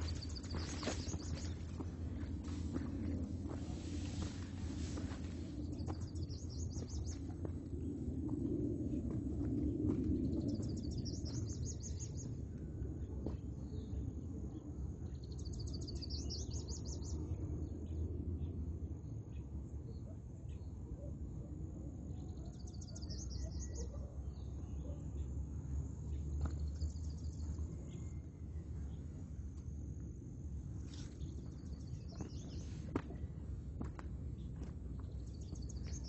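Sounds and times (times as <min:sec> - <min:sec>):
steady low rumble: 0:00.0 - 0:23.6, 0:24.3 - 0:36.0.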